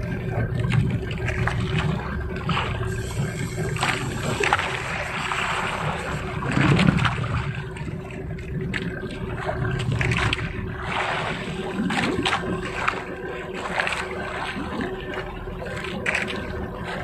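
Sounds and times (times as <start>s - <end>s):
boat engine humming: 0.0s - 17.0s
water noise: 0.0s - 17.0s
wind: 0.0s - 17.0s.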